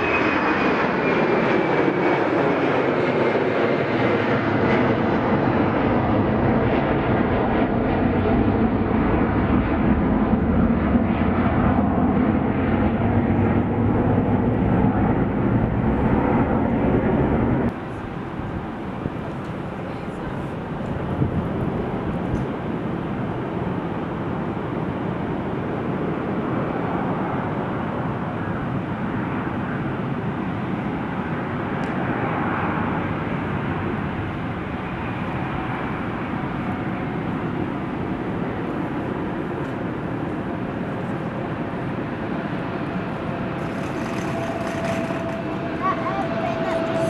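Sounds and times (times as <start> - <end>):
airliner engines roaring: 0.0 - 47.0.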